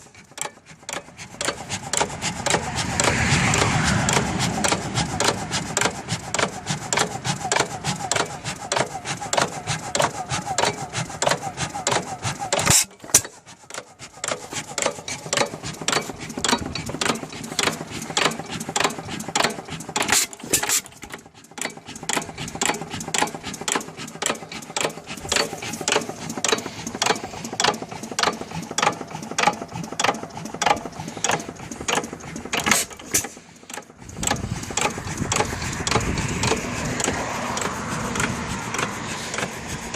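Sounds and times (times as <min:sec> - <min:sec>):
engine running with sharp clicks: 0:00.0 - 0:39.9.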